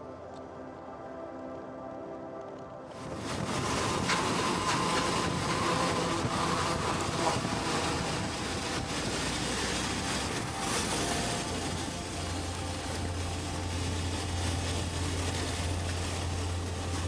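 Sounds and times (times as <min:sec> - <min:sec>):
motorcycle engine running: 0:02.9 - 0:17.0
wind rush on microphone: 0:02.9 - 0:17.0.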